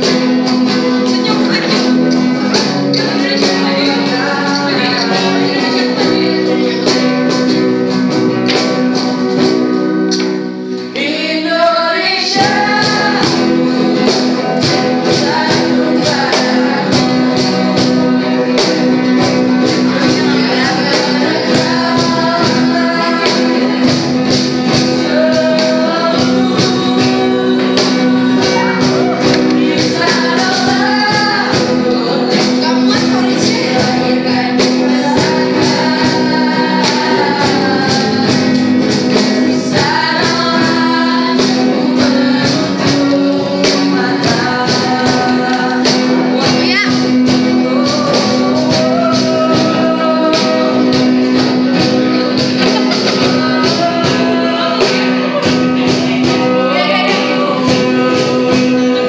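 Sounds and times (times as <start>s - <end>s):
group of voices singing: 0.0s - 59.0s
guitars: 0.0s - 59.0s
percussion beat: 0.0s - 59.0s.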